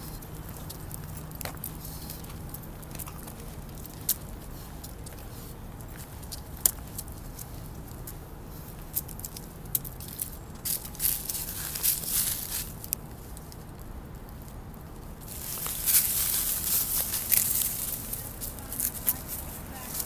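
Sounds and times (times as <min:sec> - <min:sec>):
dry leaves crackling and rustling: 0:00.0 - 0:20.0.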